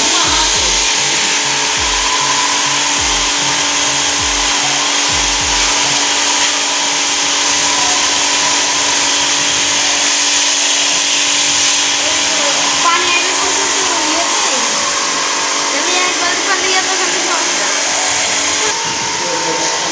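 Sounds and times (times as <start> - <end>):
pressure washer running: 0.0 - 19.9.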